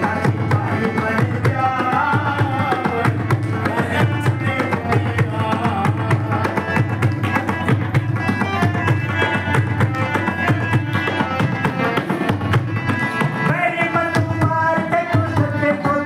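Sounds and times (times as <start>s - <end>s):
hand drum beat: 0.0s - 16.0s
harmonium melody: 0.0s - 16.0s.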